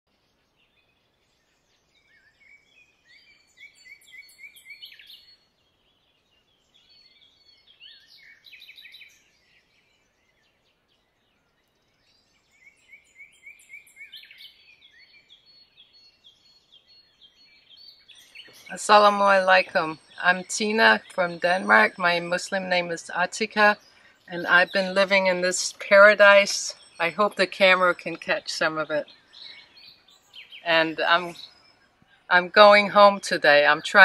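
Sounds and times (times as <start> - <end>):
birds chirping: 0.1 - 34.0.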